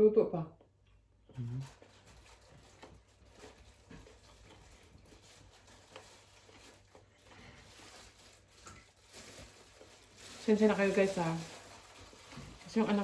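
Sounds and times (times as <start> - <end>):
faint small clicks and rustles: 0.6 - 13.0.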